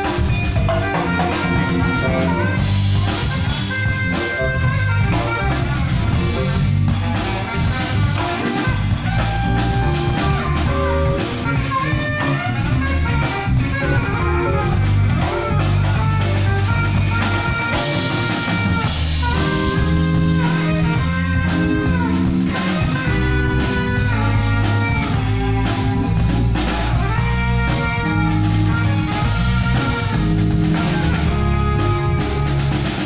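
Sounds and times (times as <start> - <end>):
bass: 0.0 - 33.0
drum kit: 0.0 - 33.0
electric guitar: 0.0 - 33.0
saxophone melody: 0.0 - 33.0.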